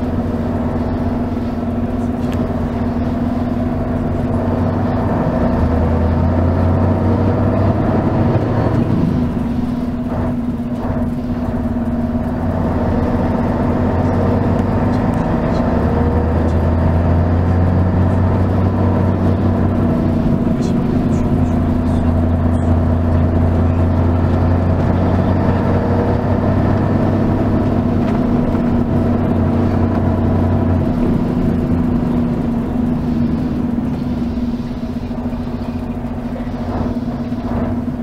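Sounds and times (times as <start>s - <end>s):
diesel bus engine running: 0.0s - 38.0s.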